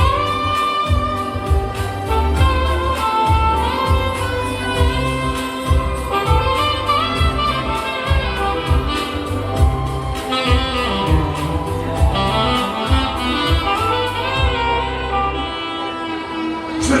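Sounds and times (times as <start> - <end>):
bass and drum backing beat: 0.0 - 15.4
saxophone melody: 0.0 - 17.0.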